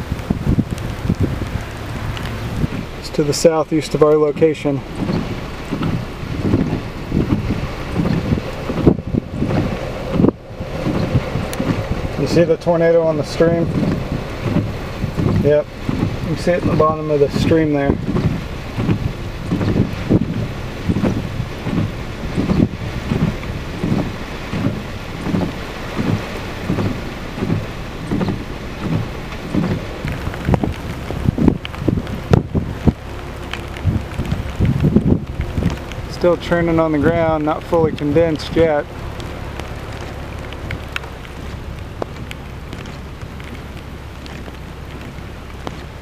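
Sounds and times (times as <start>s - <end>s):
low thumps: 0.0s - 46.0s
rain: 0.0s - 46.0s
wind: 0.0s - 46.0s.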